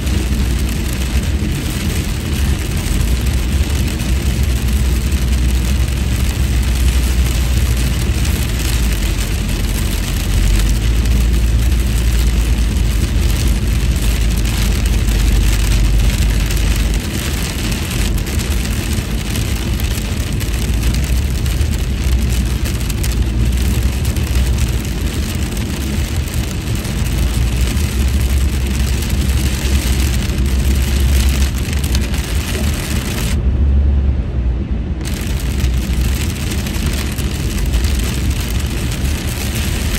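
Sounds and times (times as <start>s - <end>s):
low road rumble in car: 0.0s - 39.9s.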